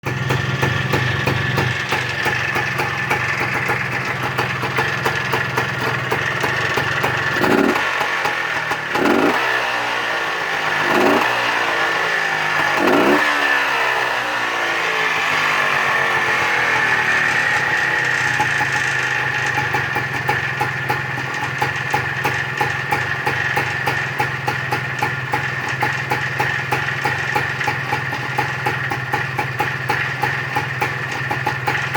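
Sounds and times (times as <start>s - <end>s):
motorcycle engine idling and revving: 0.0s - 31.9s.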